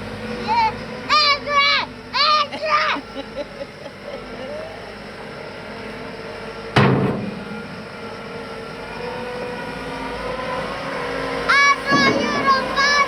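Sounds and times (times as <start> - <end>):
wheel loader engine running: 0.0 - 13.0.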